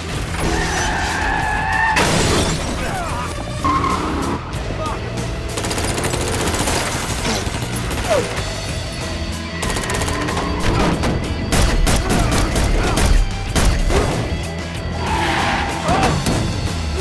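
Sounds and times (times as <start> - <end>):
film score music: 0.0 - 17.0.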